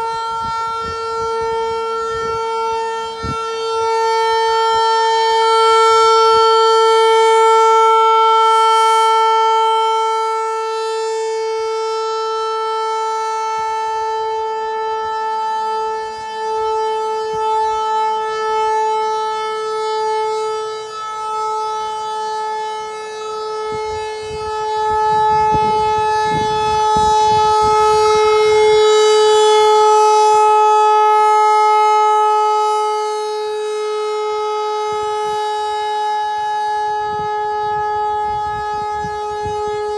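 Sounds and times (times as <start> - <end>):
rotating mechanical siren: 0.0 - 39.9.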